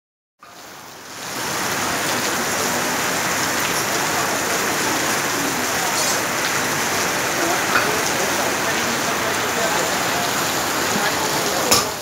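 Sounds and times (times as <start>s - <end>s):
heavy rain on pavement: 0.4s - 12.0s.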